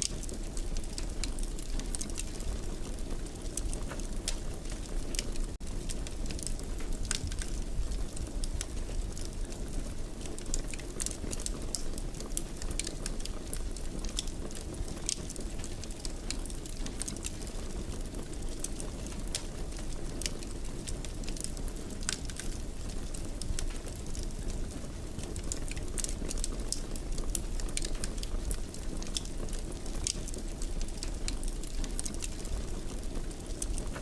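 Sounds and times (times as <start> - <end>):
fire crackles and pops: 0.0 - 34.0
flames rushing: 0.0 - 34.0.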